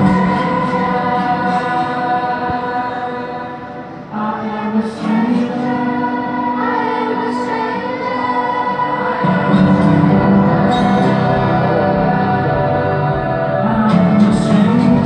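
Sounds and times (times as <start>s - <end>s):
youth choir singing: 0.0s - 15.0s.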